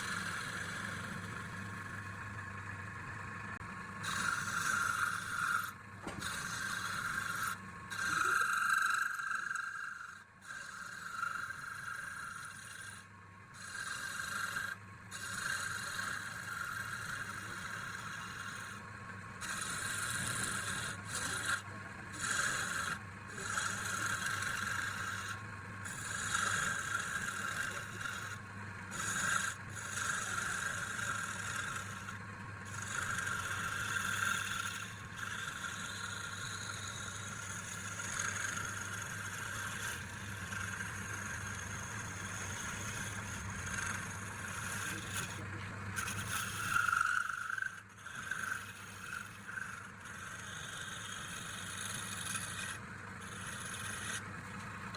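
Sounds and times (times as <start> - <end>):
wood being rasped: 0.0 - 2.0, 4.0 - 13.0, 13.6 - 18.8, 19.4 - 54.9.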